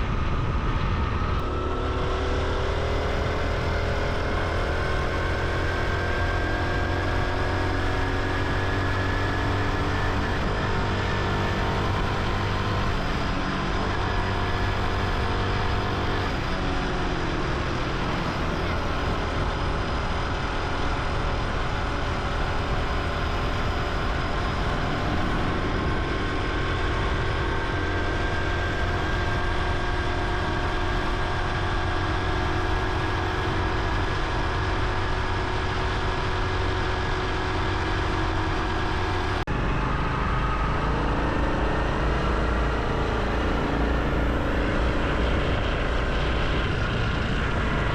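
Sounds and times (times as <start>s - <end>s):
motorcycle engine while riding: 0.0s - 47.9s.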